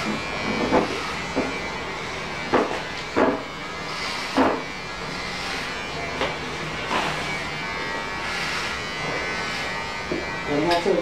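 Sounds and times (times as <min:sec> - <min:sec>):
electric hair clipper running: 0:00.0 - 0:11.0.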